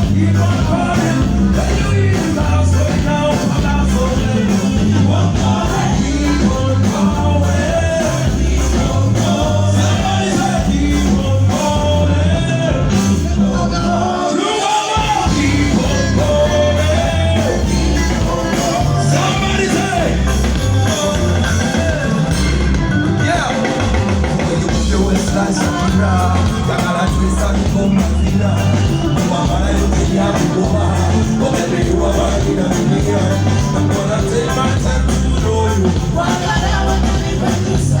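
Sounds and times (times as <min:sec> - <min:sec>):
heavy bass line: 0:00.0 - 0:14.3, 0:15.0 - 0:38.0
live band music: 0:00.0 - 0:38.0
person singing: 0:00.0 - 0:38.0.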